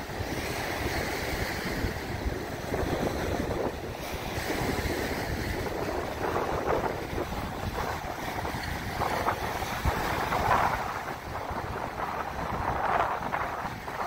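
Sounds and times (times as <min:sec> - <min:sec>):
waves breaking on beach: 0:00.0 - 0:14.0
wind buffeting microphone: 0:00.0 - 0:14.0.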